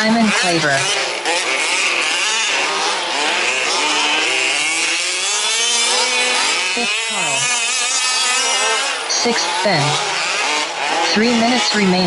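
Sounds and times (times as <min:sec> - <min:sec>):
rc truck engines buzzing: 0:00.0 - 0:12.0.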